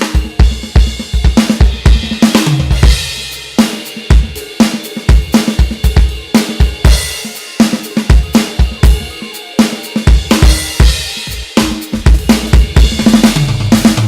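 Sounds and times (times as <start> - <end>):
drum kit groove: 0.0 - 14.0.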